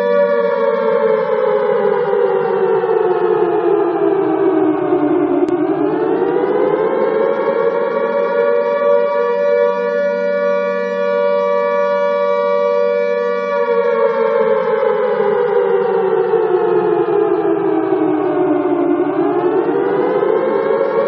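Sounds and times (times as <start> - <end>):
alarm siren wailing: 0.0 - 21.0.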